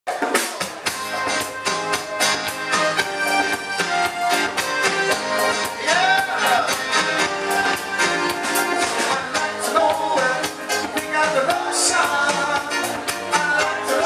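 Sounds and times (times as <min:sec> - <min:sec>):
live band playing dance music: 0:00.1 - 0:14.0
steady drum beat: 0:00.1 - 0:14.0.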